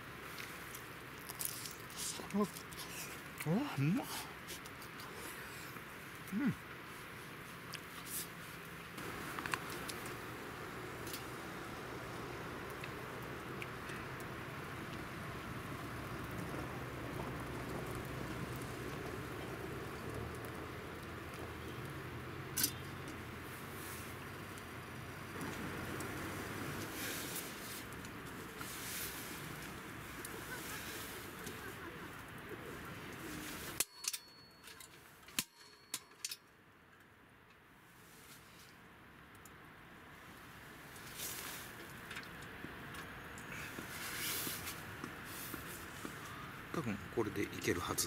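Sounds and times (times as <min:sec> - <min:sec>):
wood fire crackling: 0:00.0 - 0:34.2, 0:37.9 - 0:48.0.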